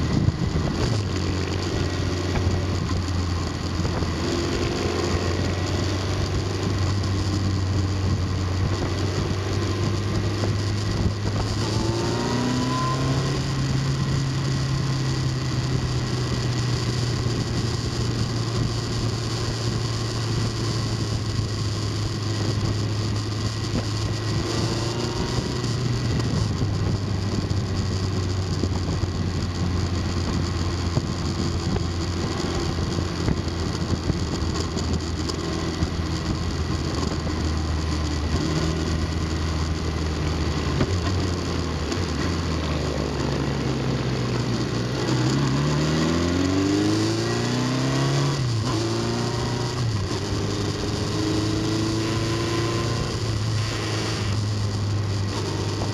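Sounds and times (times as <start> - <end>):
road and wind noise: 0.0 - 55.9
vehicle engine droning: 0.0 - 55.9.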